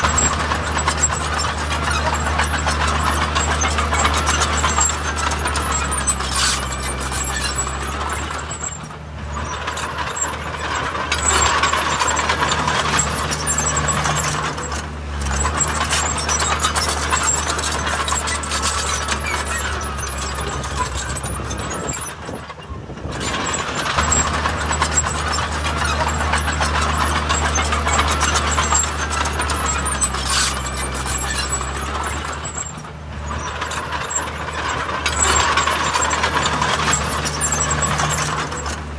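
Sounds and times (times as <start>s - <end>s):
heavy machinery diesel engines: 0.0s - 38.9s
rattling clatter: 0.0s - 38.9s.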